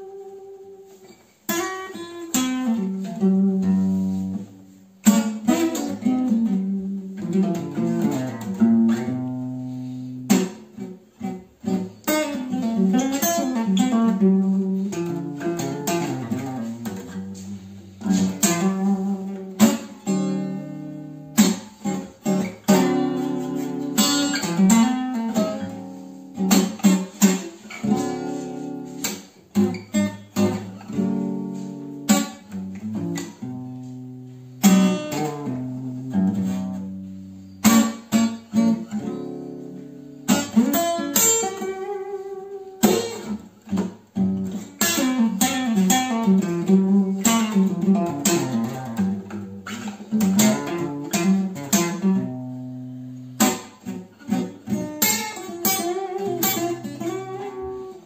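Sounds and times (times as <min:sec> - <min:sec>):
acoustic guitar blues playing: 0:00.0 - 0:58.0.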